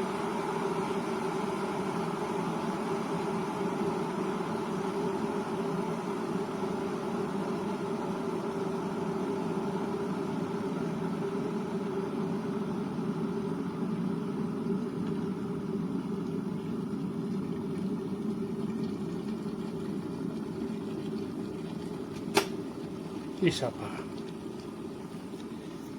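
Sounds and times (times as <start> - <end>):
electric kettle boiling: 0.0 - 25.9.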